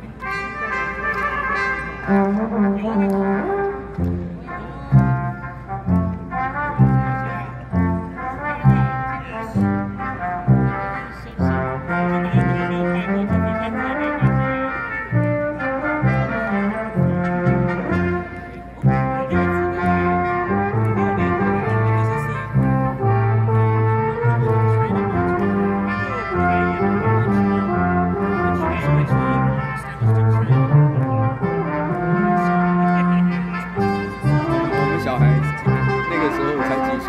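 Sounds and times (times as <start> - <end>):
brass band playing: 0.0 - 37.0
short low brass notes: 0.2 - 37.0.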